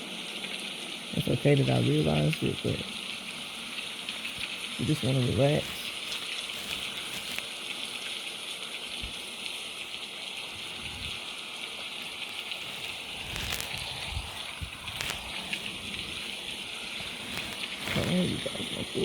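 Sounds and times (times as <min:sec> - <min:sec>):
heavy rain falling: 0:00.0 - 0:19.0
soft drips and thuds: 0:01.3 - 0:19.0.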